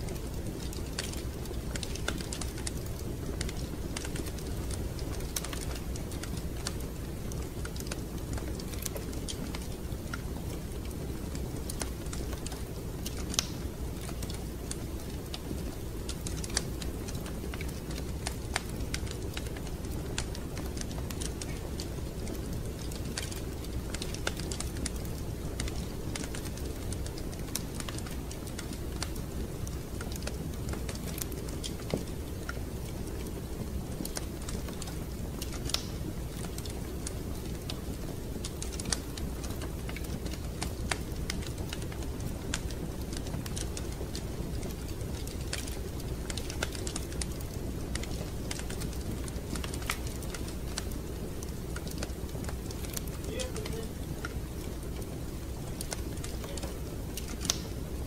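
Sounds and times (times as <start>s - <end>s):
fireplace crackling and popping: 0.0s - 58.0s.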